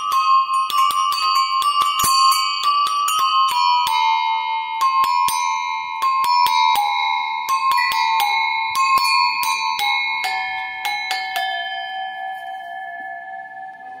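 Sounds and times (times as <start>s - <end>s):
metal animal bells ringing: 0.0s - 14.0s.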